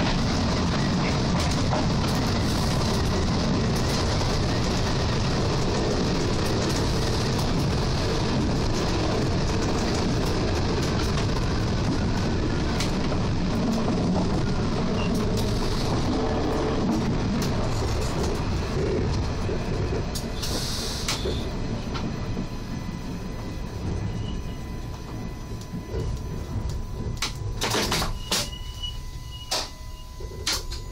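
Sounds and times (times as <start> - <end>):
train rumbling on rails: 0.0 - 30.9.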